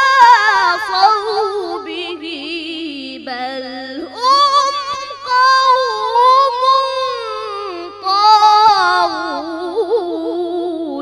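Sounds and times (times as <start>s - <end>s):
boy chanting melodically: 0.0s - 11.0s.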